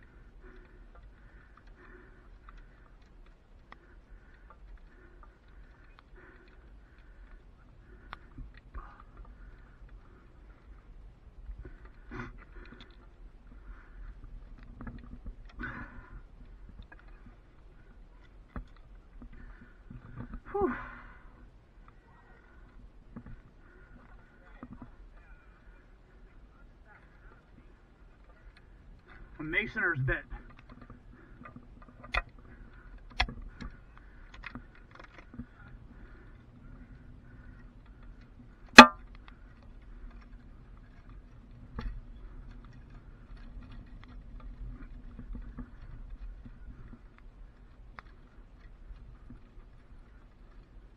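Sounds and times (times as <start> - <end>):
faint low rumble: 0.0 - 50.9.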